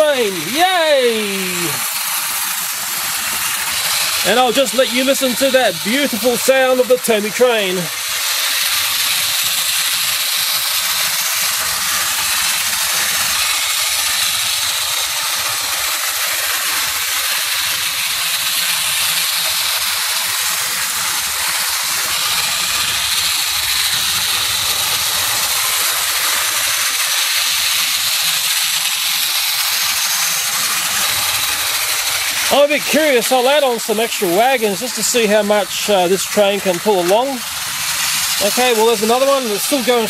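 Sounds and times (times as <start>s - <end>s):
toy train motor whirring: 0.0s - 40.0s.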